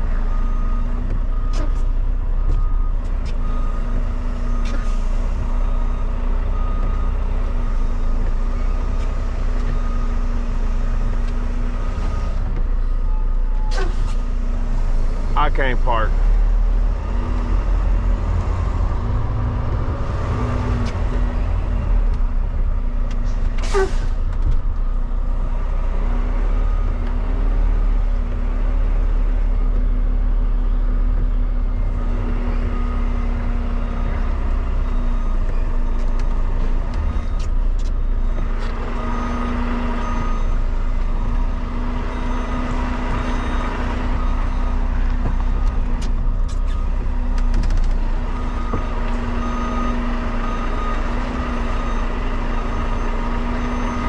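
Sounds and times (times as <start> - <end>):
diesel truck engine rumbling: 0.0 - 54.0.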